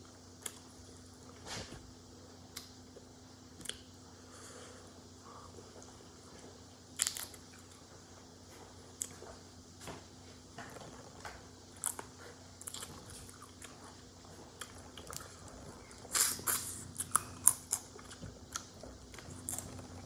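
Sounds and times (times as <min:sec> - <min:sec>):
soft chewing: 0:00.0 - 0:20.0.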